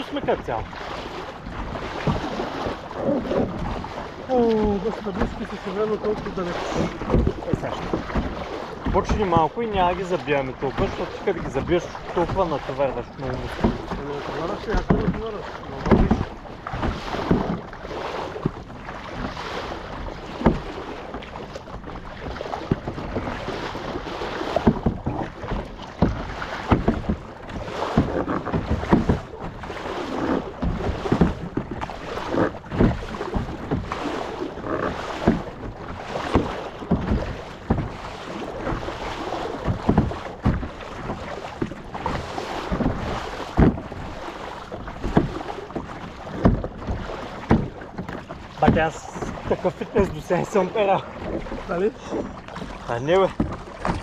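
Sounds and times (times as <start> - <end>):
paddles splashing in water: 0.0 - 54.0
water washing past hull: 0.0 - 54.0.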